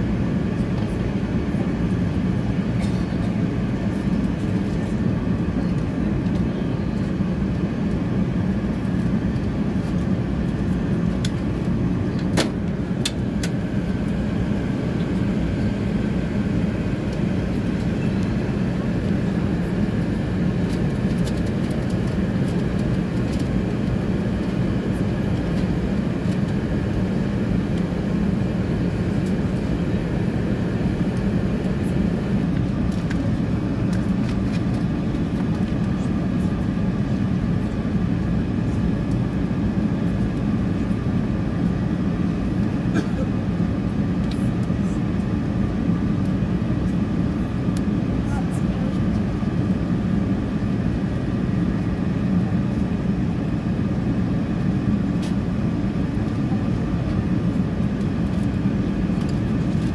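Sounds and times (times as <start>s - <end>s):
airliner cabin roar: 0.0s - 59.9s.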